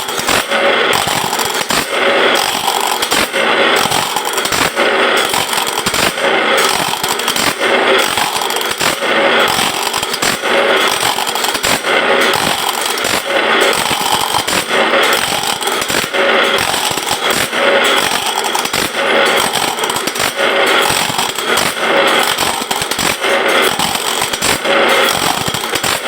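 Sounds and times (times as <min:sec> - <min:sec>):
sharpening machine grinding: 0:00.0 - 0:26.0.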